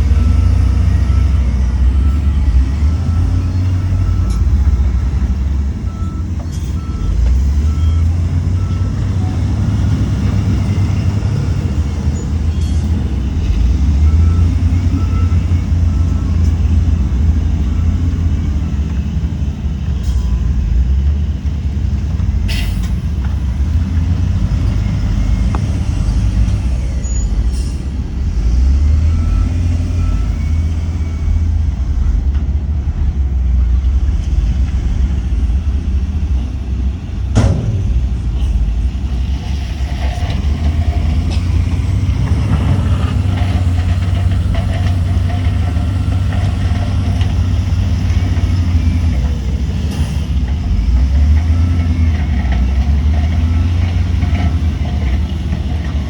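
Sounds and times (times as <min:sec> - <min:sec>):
heavy diesel engine drone: 0:00.0 - 0:56.0.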